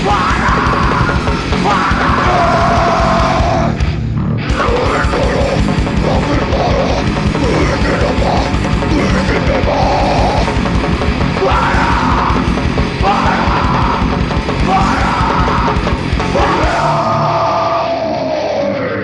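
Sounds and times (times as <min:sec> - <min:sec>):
vocalist yelling: 0:00.0 - 0:03.8, 0:04.5 - 0:10.5, 0:11.4 - 0:19.0
distorted guitars and drums: 0:00.0 - 0:19.0.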